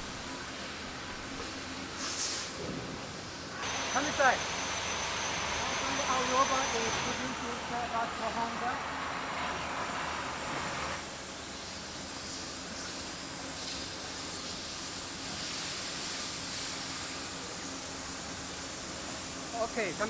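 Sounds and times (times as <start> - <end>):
machinery hissing: 3.6 - 20.0.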